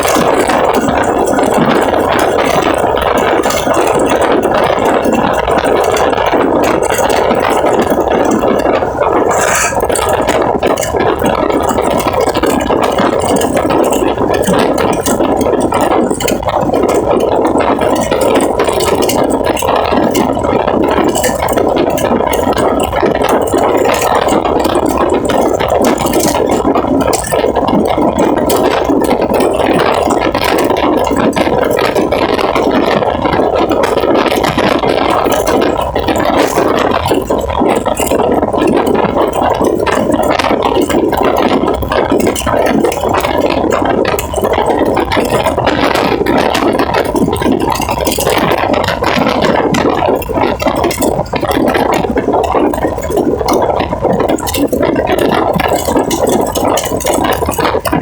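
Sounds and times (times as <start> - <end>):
engine running with rattle: 0.0 - 58.0.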